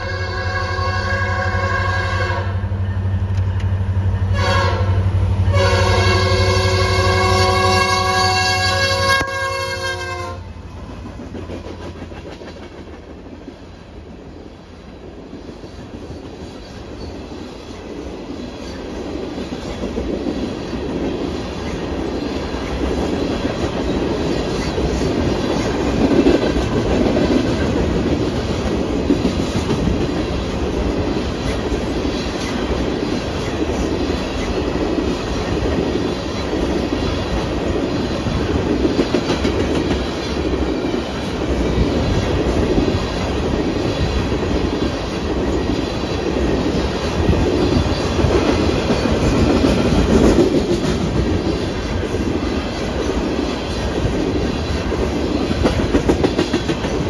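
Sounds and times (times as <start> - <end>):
train wheels clattering on rails: 10.6 - 57.0.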